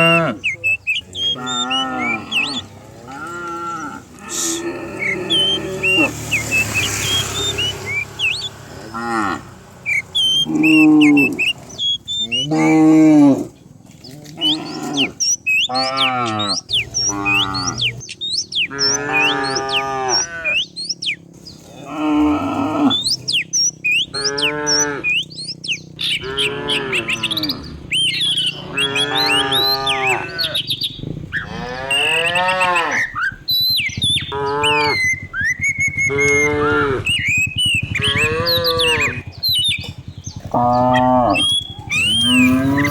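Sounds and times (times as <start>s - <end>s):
cattle mooing: 0.0s - 18.0s, 18.6s - 20.7s, 21.6s - 25.3s, 26.0s - 42.9s.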